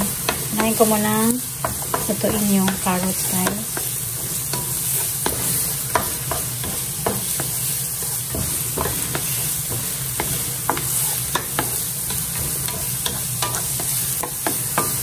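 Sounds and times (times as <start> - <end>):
vegetables sizzling in hot oil: 0.0 - 15.0
wooden spatula tapping and scraping pan: 0.1 - 15.0.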